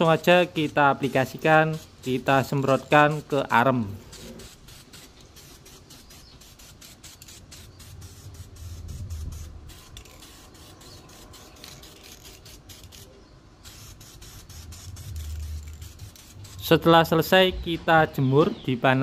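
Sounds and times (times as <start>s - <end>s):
spray paint can hissing: 0.0s - 17.3s.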